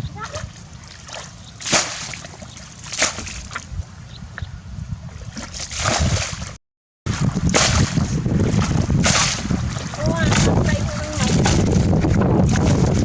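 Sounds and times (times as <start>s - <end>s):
water splashing and sloshing: 0.0s - 4.0s, 5.0s - 13.0s.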